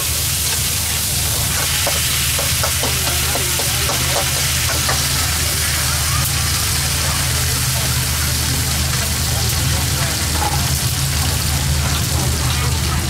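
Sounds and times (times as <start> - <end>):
food sizzling: 0.0 - 13.0
murmur of voices: 0.0 - 13.0.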